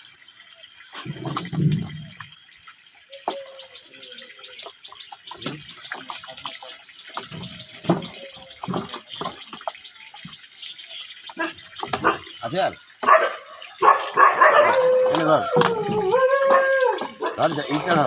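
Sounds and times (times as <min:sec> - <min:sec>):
fish splashing in water: 0:00.0 - 0:18.0
running water hiss: 0:00.0 - 0:18.0.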